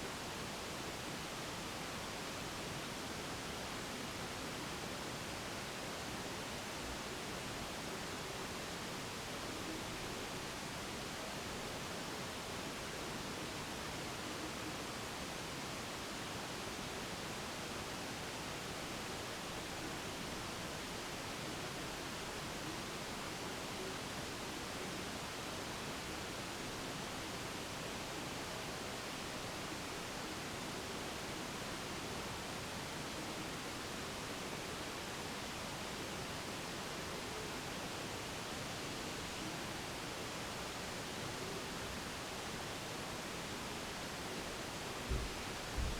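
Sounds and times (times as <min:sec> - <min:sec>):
steady room hiss: 0:00.0 - 0:45.9.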